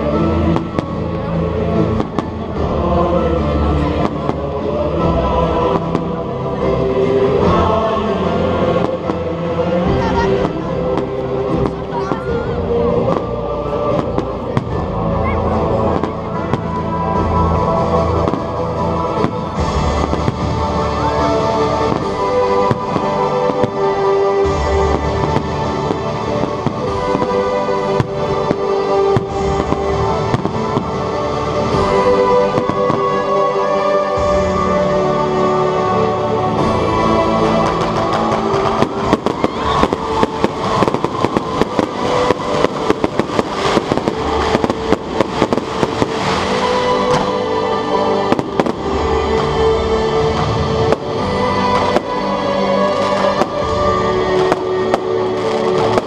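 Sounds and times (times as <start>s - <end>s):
fireworks bursting: 0.0s - 2.7s, 3.5s - 34.4s, 36.5s - 56.0s
music: 0.0s - 56.0s.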